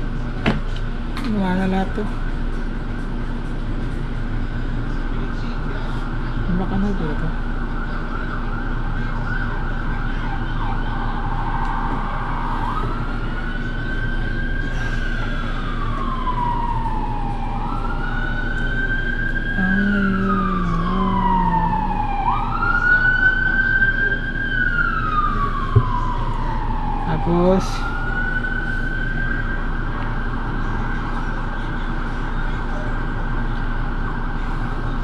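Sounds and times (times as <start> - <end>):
siren wailing: 6.5 - 35.0.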